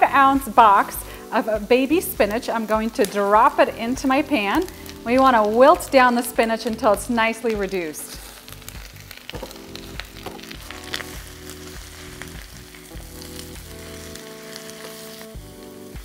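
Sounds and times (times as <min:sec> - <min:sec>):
spinach sizzling in a pan: 0:00.0 - 0:16.0.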